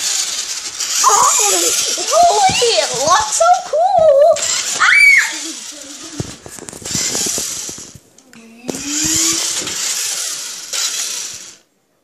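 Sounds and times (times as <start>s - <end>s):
toy truck motor whirring: 0.0s - 11.7s.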